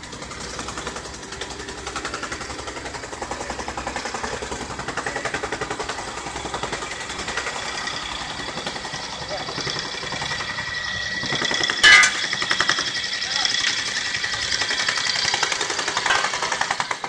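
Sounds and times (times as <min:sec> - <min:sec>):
compactor engine pulsing: 0:00.0 - 0:17.0
excavator engine idling: 0:00.0 - 0:17.0.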